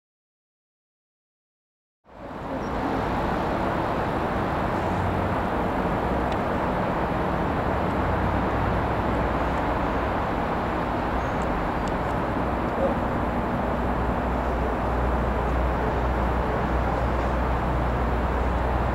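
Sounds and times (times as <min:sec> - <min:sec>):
broad rushing noise: 0:02.1 - 0:18.9
diesel locomotive engine drone: 0:02.1 - 0:18.9.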